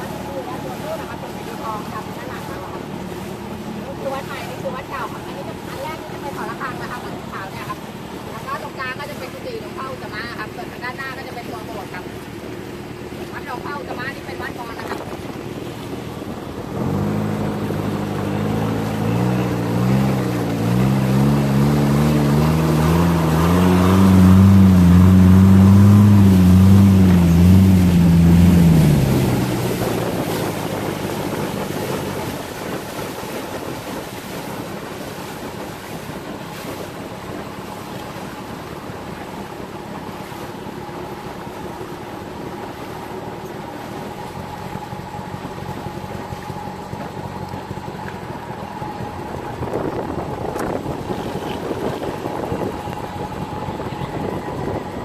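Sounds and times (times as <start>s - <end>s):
motorboat engine running: 0.0s - 55.0s
water: 0.0s - 55.0s
wind: 0.0s - 55.0s.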